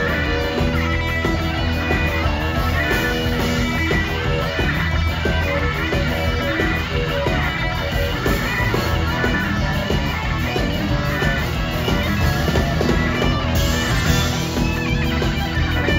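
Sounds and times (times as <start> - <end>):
electric guitar: 0.0 - 15.9
live rock band instrumental: 0.0 - 15.9.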